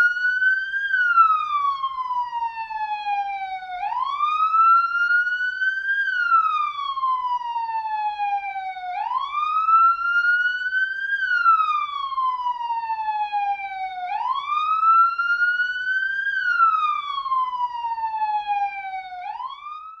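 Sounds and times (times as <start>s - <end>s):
police siren wailing: 0.0s - 20.0s.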